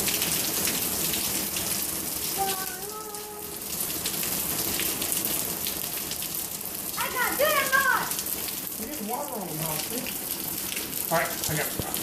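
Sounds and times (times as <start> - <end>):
heavy rain on hard surfaces: 0.0 - 12.0.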